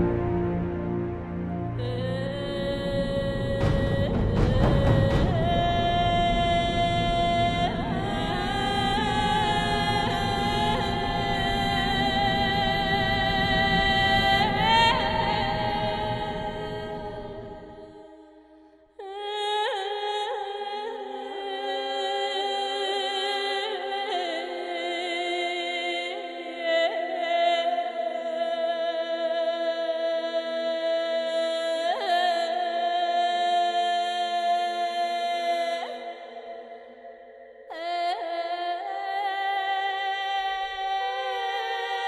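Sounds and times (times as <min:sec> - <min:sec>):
slow chant-like background music: 0:00.0 - 0:42.0.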